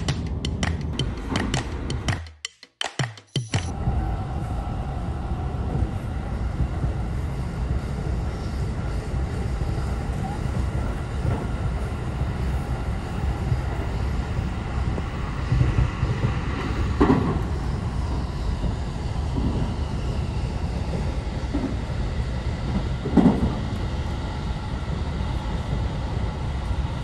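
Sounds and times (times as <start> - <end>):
train wheels rumbling on rail: 0.0 - 2.3, 3.4 - 27.0.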